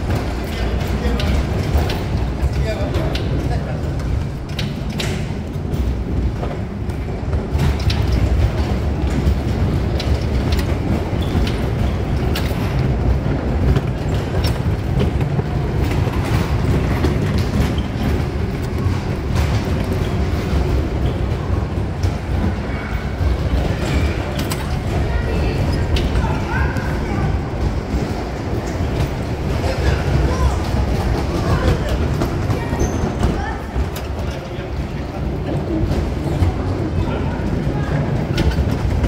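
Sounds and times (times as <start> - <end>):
wheels rumbling on metal plates: 0.0 - 39.0.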